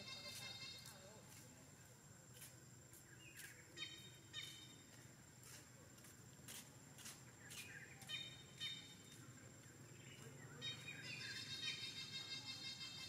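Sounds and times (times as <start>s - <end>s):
forest ambience: 0.0s - 13.0s.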